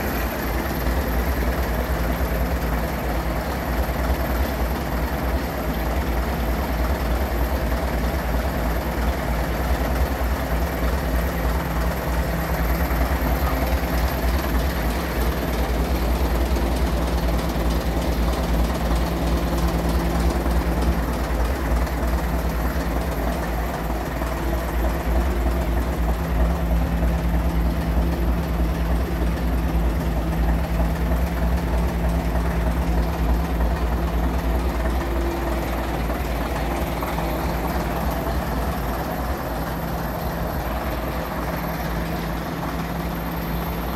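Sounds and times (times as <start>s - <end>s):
bus diesel engine idling: 0.0s - 43.9s.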